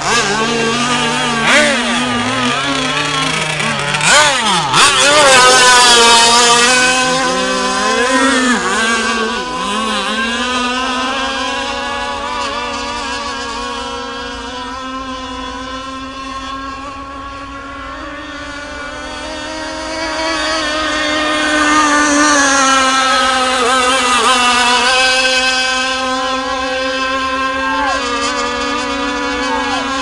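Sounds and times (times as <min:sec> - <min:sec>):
racing boat engine whine: 0:00.0 - 0:30.0.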